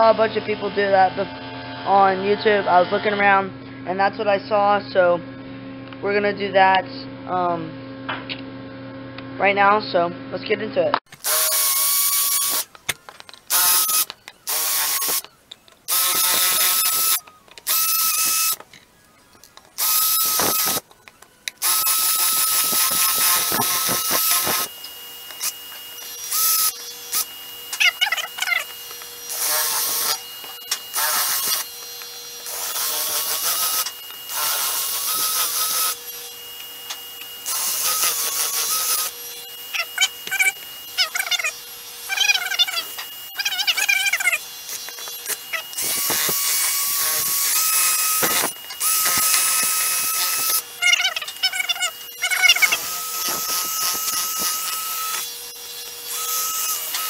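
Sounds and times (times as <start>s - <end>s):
power drill whining in bursts: 11.1s - 57.0s.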